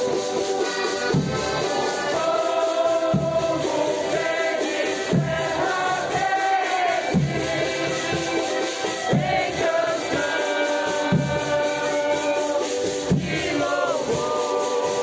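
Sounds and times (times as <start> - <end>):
accordion: 0.0 - 15.0
deep drum strokes: 0.0 - 15.0
group singing in chorus: 0.0 - 15.0.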